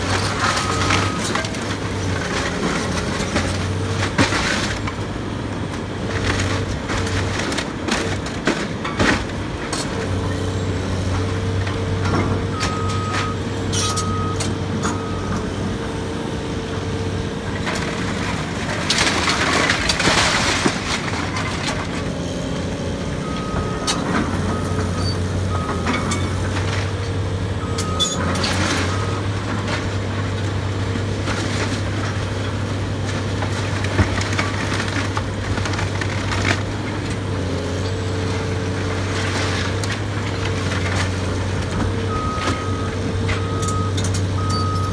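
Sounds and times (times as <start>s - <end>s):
debris cracking and knocking: 0.0s - 10.2s, 17.5s - 27.3s, 28.0s - 44.3s
excavator diesel engine: 0.0s - 44.9s.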